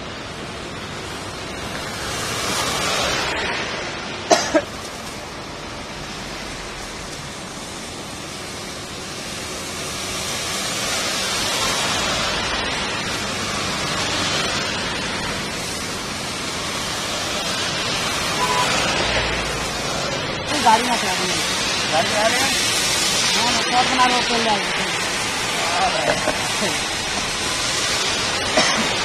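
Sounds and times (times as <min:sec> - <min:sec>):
heavy rain: 0:00.0 - 0:29.0
tyres hissing through water: 0:00.0 - 0:29.0.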